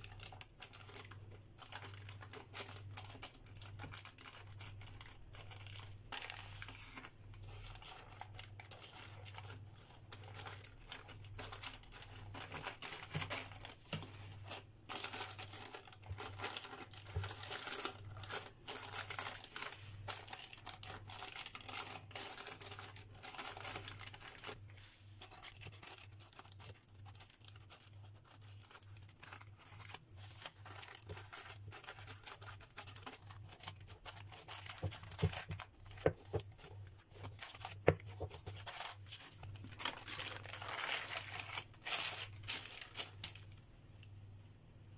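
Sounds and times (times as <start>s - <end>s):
baking paper crinkling: 0.0s - 43.7s
low steady hum: 0.0s - 44.9s.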